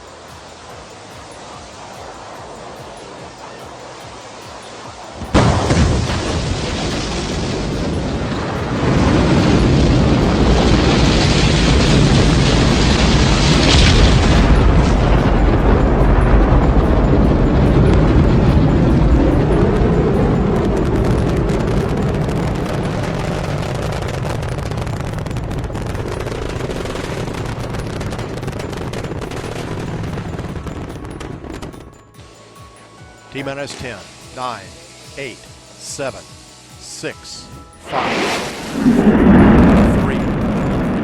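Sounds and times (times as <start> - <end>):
rocket engines roaring: 0.0 - 32.2, 33.3 - 36.2, 36.8 - 41.0.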